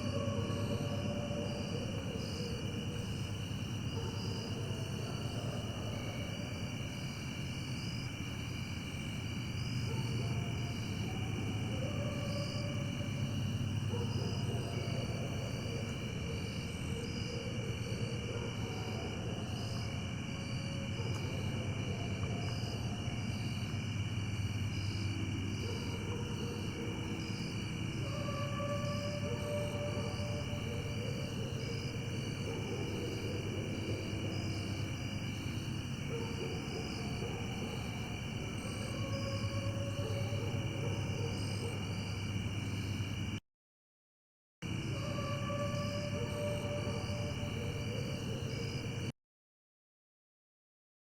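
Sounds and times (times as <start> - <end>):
coyotes howling: 0.0 - 23.8, 24.6 - 42.7, 44.8 - 49.1.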